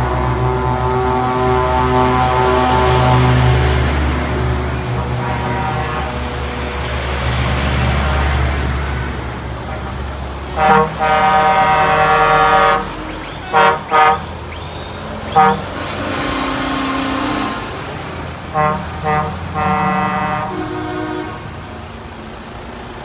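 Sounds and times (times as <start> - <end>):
truck air horns: 0.0 - 22.0
truck engines running: 0.0 - 23.0.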